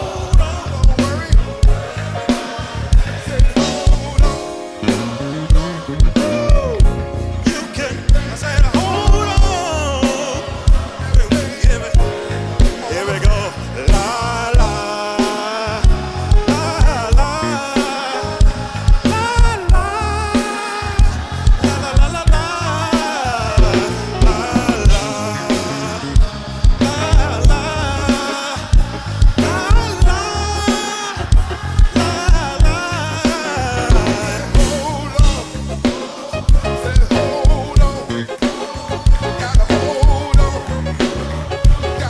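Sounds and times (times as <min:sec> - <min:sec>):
band playing: 0:00.0 - 0:42.0
drum kit steady beat: 0:00.0 - 0:42.0
men's chorus singing gospel: 0:00.0 - 0:42.0.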